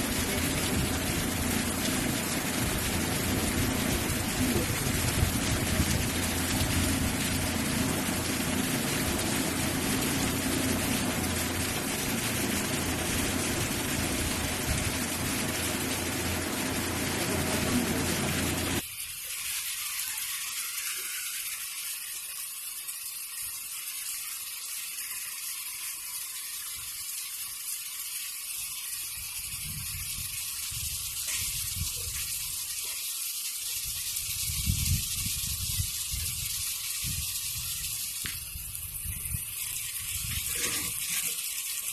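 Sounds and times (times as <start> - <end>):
heavy rain hissing: 0.0 - 22.2, 28.9 - 41.9
thin high rain hiss: 0.0 - 41.9.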